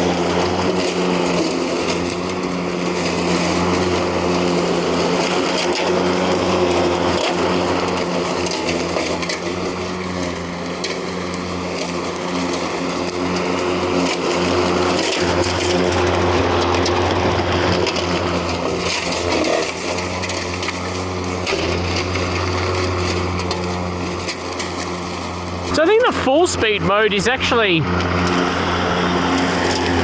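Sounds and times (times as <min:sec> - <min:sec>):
electric lawn mower running: 0:00.0 - 0:30.0
grass being cut: 0:00.0 - 0:30.0.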